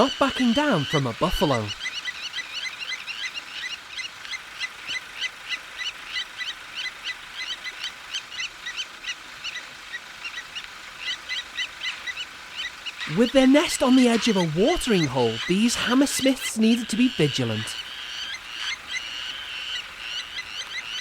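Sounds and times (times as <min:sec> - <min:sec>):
lapwings metallic alarm calls: 0:00.0 - 0:21.0.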